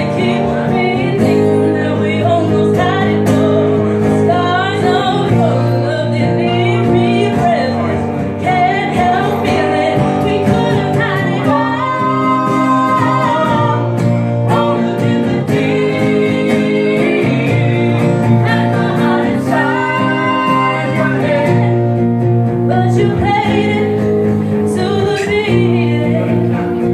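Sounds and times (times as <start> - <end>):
guitar chords: 0.0 - 26.9
person singing with vibrato: 0.0 - 26.9.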